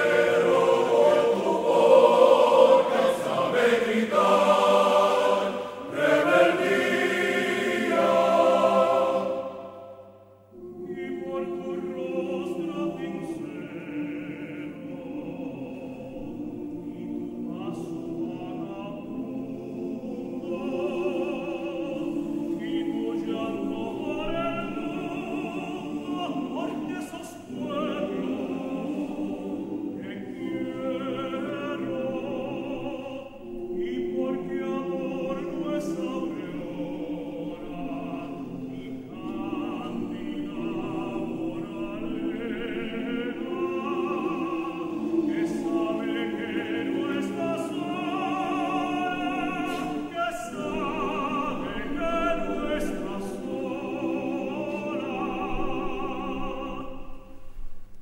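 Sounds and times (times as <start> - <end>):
men's choir singing: 0.0 - 57.4.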